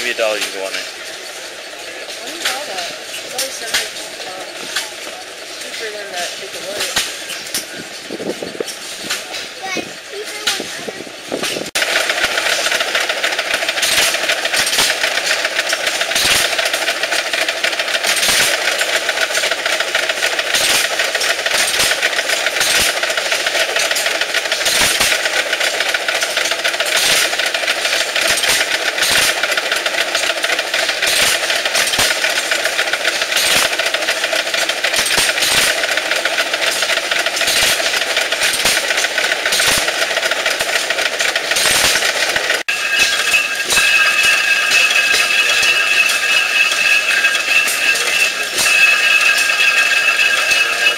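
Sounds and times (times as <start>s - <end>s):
stationary gas engines clattering: 0.0s - 50.9s.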